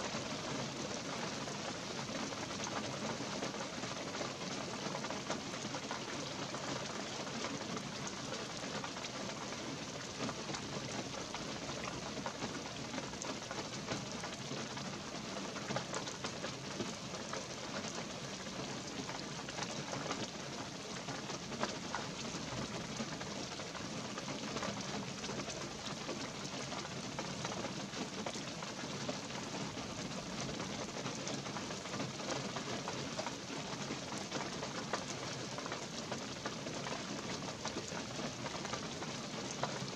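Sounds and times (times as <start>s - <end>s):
light rain on pine needles: 0.0s - 39.9s.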